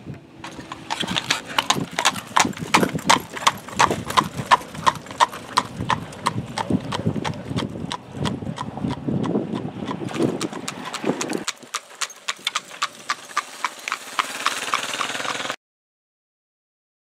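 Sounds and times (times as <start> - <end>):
horse hooves clip-clopping on asphalt: 0.4 - 15.6.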